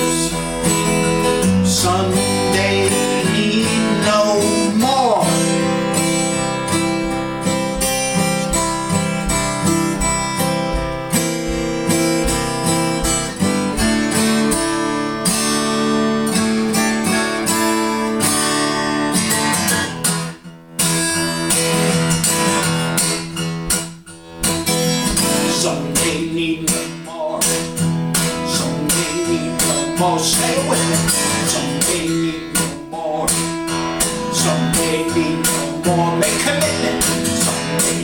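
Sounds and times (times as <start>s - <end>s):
strummed acoustic guitar music: 0.0s - 38.0s.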